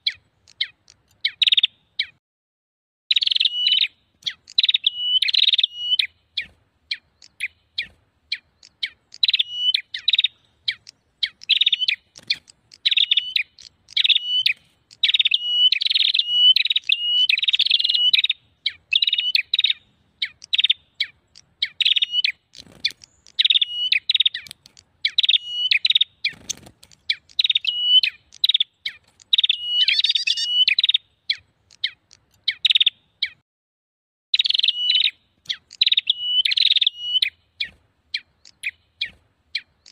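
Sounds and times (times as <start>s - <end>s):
bird chirping rapidly: 0.0s - 2.2s, 3.1s - 33.4s, 34.4s - 39.9s.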